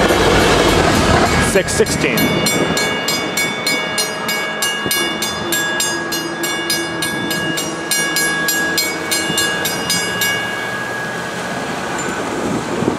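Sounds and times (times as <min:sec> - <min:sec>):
railroad crossing bell ringing: 0:00.0 - 0:12.9
train rumbling: 0:00.0 - 0:12.9.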